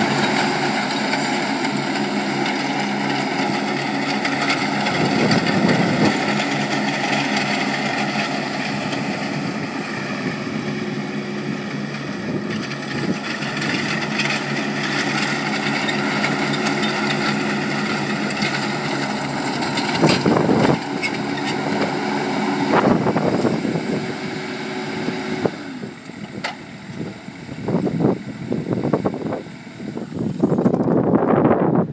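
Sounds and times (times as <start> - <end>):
riding mower engine running: 0.0 - 31.9.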